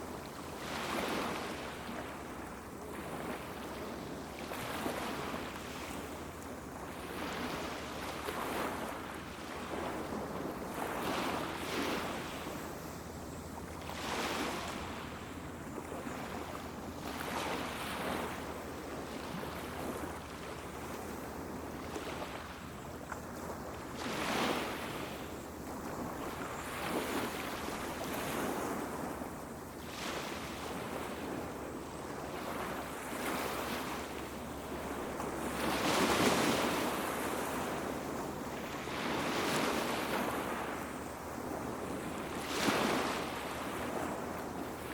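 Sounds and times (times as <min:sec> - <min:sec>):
sea waves washing onto beach: 0:00.0 - 0:44.9.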